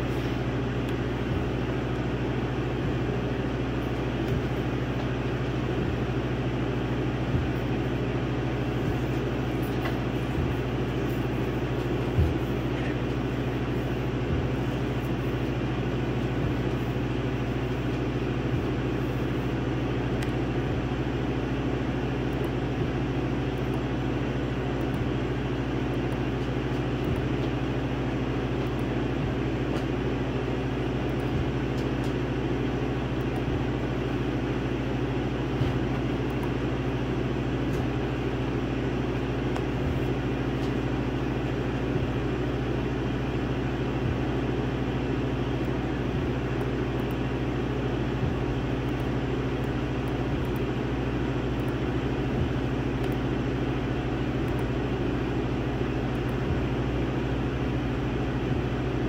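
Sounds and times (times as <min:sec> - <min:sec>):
laser engraver humming: 0:00.0 - 0:59.0.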